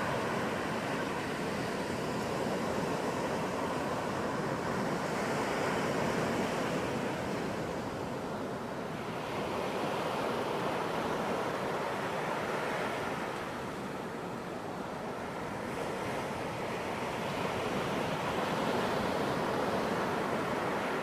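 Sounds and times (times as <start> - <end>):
waves breaking on a beach: 0.0 - 21.0.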